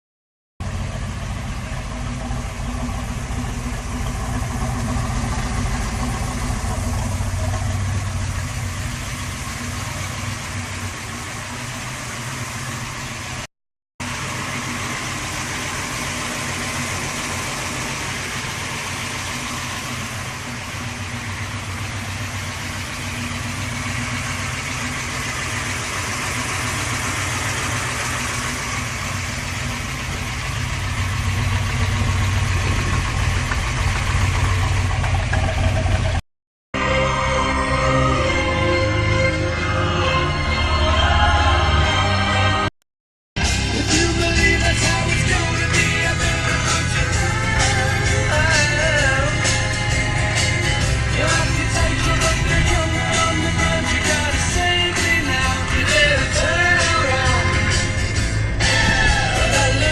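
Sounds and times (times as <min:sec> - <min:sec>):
car engine running: 0:00.6 - 0:36.2, 0:43.4 - 0:59.9.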